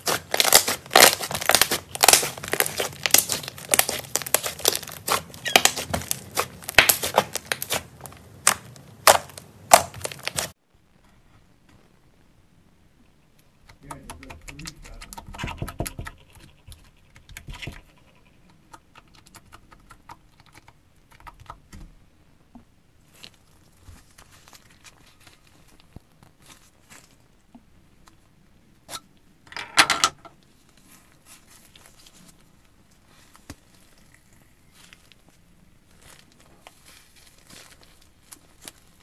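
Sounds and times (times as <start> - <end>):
slime crackling: 0.0 - 10.6, 13.6 - 21.8, 23.0 - 28.2, 30.4 - 39.0.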